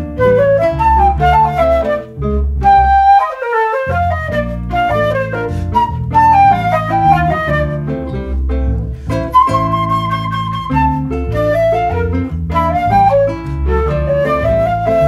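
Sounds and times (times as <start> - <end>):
electric bass line: 0.0 - 3.1, 4.0 - 15.0
flute melody: 0.0 - 15.0
plucked nylon-string guitar: 0.0 - 15.0.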